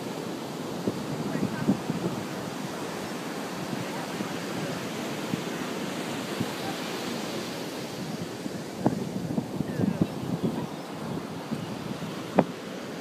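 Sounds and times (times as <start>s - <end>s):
surf rushing: 0.0s - 13.0s
wind: 0.0s - 13.0s.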